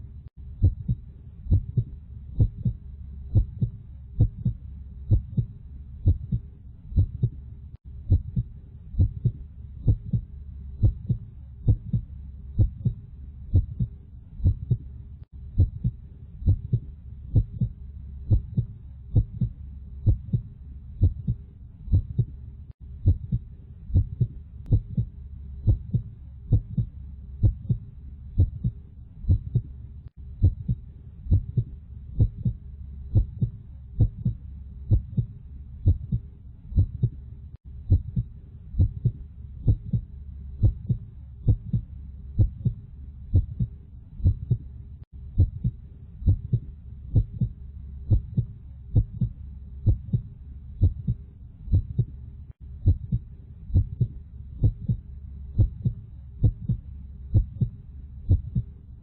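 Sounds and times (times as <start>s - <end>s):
heartbeat thumps: 0.0s - 37.2s, 37.8s - 58.7s
low hum: 0.0s - 59.0s.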